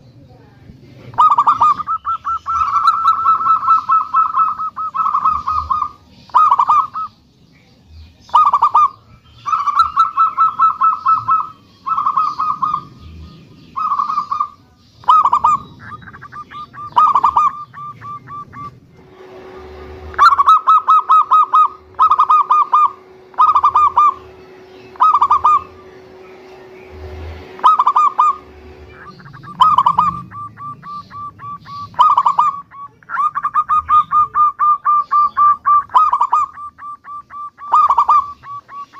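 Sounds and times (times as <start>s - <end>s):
dove cooing: 1.0s - 7.2s, 8.3s - 38.9s.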